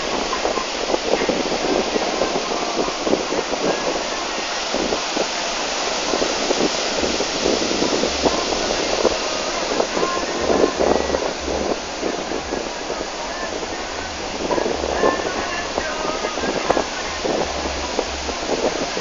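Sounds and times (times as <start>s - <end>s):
surf rushing: 0.0s - 19.0s
wind buffeting microphone: 0.0s - 19.0s.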